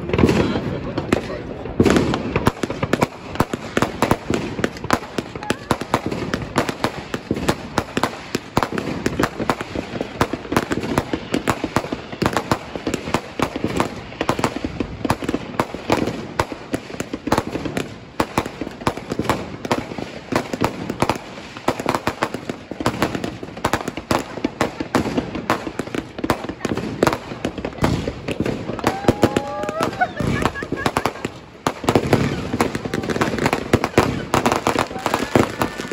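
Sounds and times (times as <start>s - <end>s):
fireworks and firecrackers crackling: 0.0s - 35.9s.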